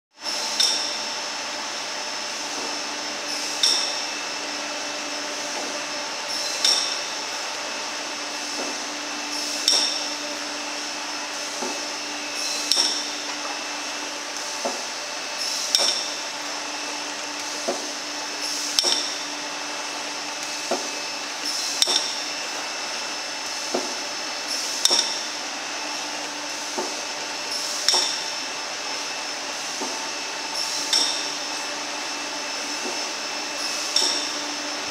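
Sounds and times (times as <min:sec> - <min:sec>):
machine humming: 0:00.2 - 0:34.9.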